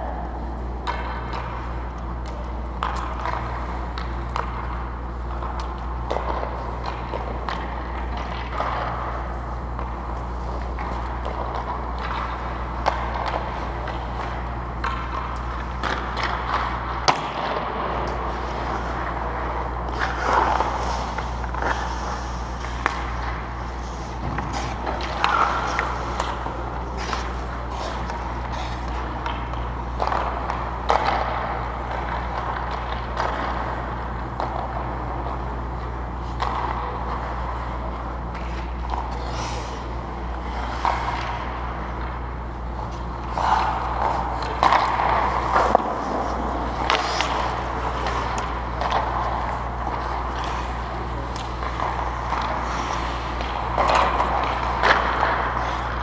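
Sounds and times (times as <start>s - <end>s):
hockey sticks and pucks clacking: 0.0s - 56.0s
steady low hum: 0.0s - 56.0s
skate blades scraping ice: 5.6s - 35.6s, 36.2s - 42.2s, 42.8s - 56.0s.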